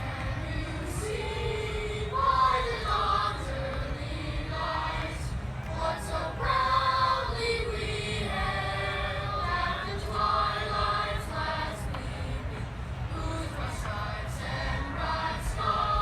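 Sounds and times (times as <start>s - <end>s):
boys' choir singing: 0.0s - 16.0s.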